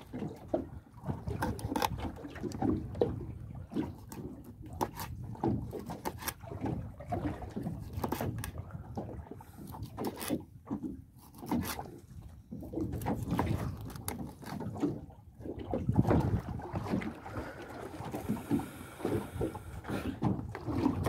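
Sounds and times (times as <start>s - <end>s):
knocks and clatter on boat: 0.0s - 21.0s
low rumble of wind and water: 0.0s - 21.0s
water splashing: 0.0s - 21.0s.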